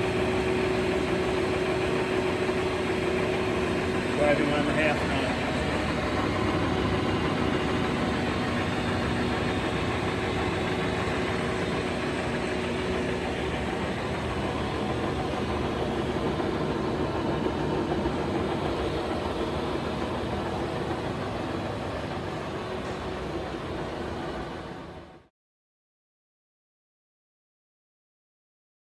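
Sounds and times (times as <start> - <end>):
lathe running: 0.0 - 25.0.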